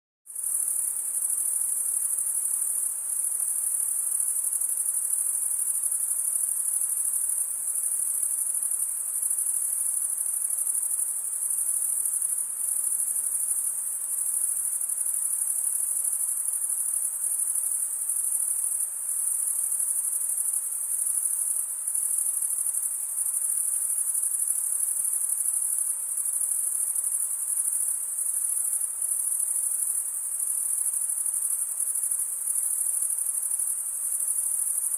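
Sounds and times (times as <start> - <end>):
faint background hiss: 0.3 - 34.9
crickets chirring: 0.4 - 34.9.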